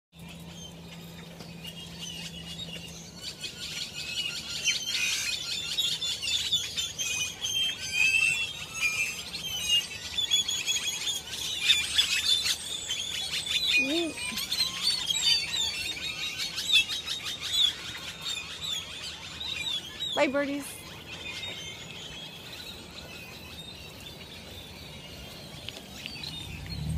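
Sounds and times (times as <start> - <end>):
small birds chirping: 0.2 - 26.9.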